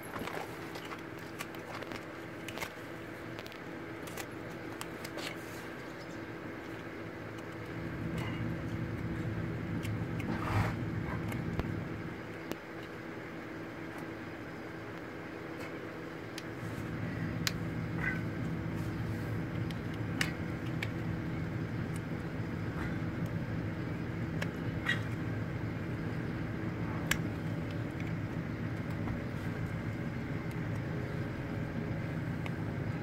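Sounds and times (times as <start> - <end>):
motor humming: 0.0 - 33.0.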